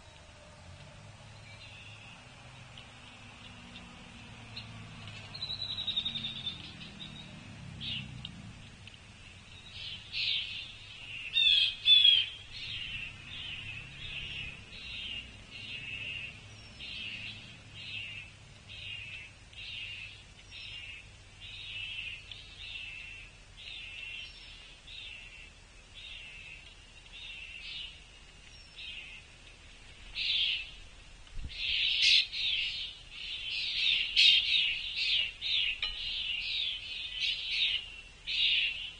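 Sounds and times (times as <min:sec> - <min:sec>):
harsh bird calls: 0:01.3 - 0:29.4, 0:30.0 - 0:38.9.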